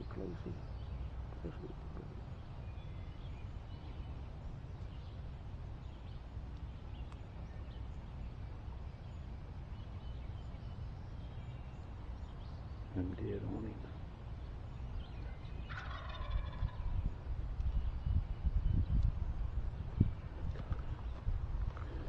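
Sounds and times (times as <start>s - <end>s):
faint bird chirps: 0.0s - 22.0s
low steady rumble: 0.0s - 22.0s.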